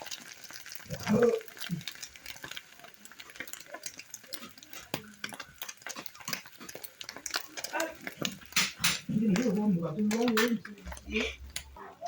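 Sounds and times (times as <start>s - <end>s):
food stirred in cooking pan: 0.0s - 12.0s.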